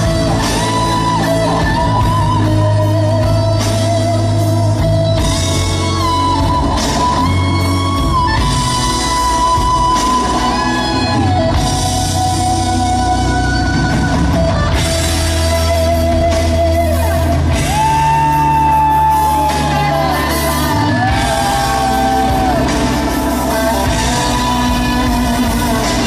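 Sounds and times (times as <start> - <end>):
bass and guitar rock music: 0.0 - 26.0.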